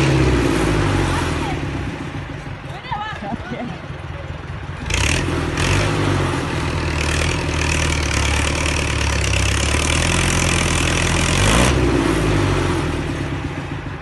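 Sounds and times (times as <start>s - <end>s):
tractor engine straining: 0.0s - 14.0s.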